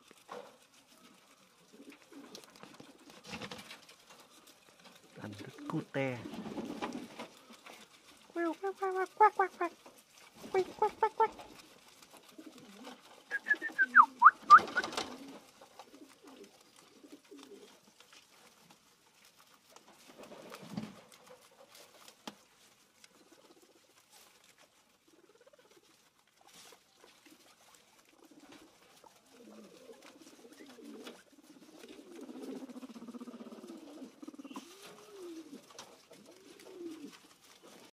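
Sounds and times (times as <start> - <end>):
guinea pigs squeaking: 0.0 - 20.6, 23.0 - 37.9
guinea pigs chuttering: 0.0 - 37.9
loud rustle: 0.0 - 37.9.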